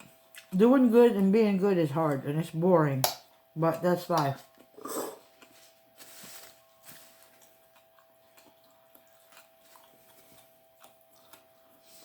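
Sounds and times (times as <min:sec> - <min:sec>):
chewing and eating sounds: 0:00.0 - 0:02.5, 0:03.2 - 0:12.0
faint steady hum: 0:00.0 - 0:12.0.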